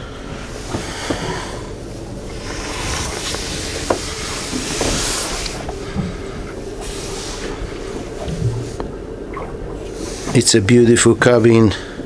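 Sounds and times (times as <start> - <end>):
faint low hum: 0.0 - 12.0
steady hissing noise: 0.0 - 12.0.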